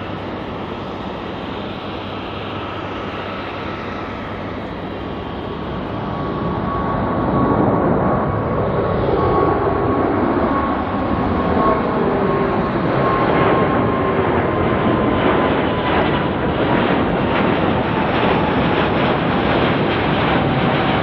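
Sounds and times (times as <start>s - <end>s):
jet engines rushing rumble: 0.0s - 21.0s
thin steady engine whine: 0.0s - 21.0s.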